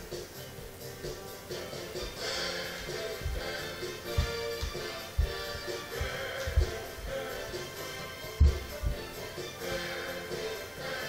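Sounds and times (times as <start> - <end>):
dance music: 0.0 - 11.0.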